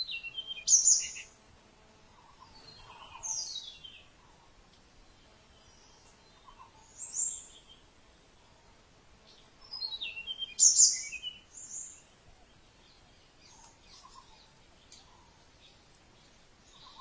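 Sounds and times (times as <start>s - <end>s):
outdoor background hiss: 0.0s - 17.0s
wild birds singing and calling: 0.0s - 17.0s.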